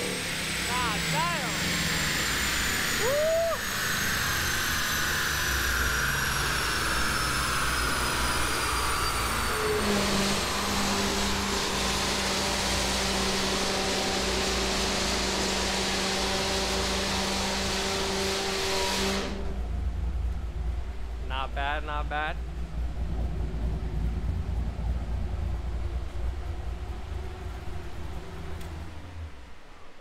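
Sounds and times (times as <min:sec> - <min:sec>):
high whine falling in pitch: 0:00.0 - 0:30.0
loud machine noise: 0:00.0 - 0:30.0
steady low hum: 0:00.0 - 0:30.0.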